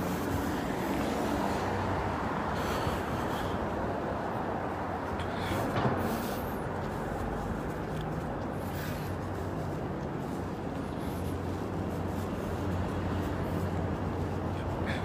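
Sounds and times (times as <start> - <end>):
street ambience rumble and hum: 0.0 - 15.0.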